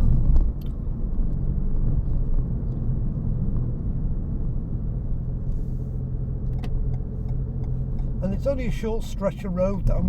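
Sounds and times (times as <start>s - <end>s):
road and tyre rumble in car cabin: 0.0s - 10.0s.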